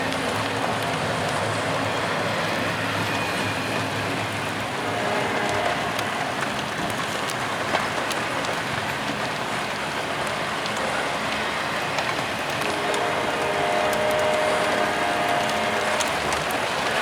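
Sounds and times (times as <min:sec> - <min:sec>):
raindrop ticks: 0:00.0 - 0:02.1, 0:05.3 - 0:17.0
faint freight train: 0:00.0 - 0:17.0
heavy rain falling: 0:00.0 - 0:17.0.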